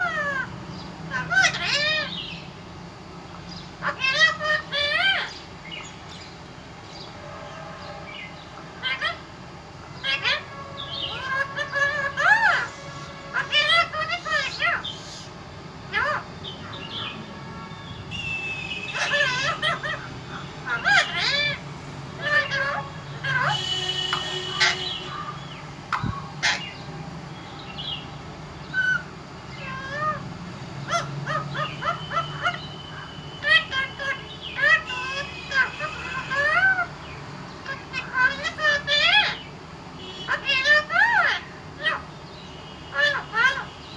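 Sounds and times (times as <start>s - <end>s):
parrot calling: 0.0s - 6.4s, 7.0s - 43.9s.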